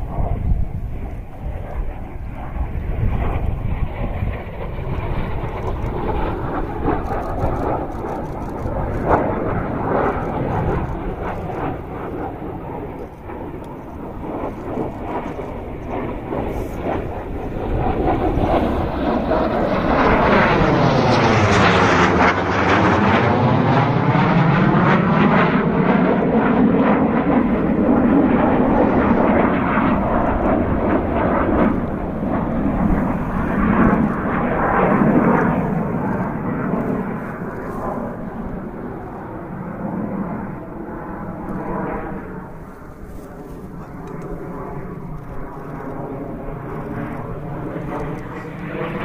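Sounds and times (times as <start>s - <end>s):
jet flying past overhead: 0.0s - 49.0s.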